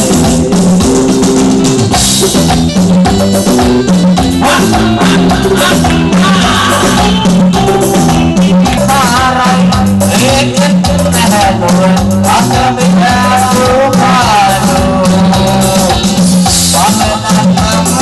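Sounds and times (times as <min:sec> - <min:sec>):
upbeat dance music: 0:00.0 - 0:18.0.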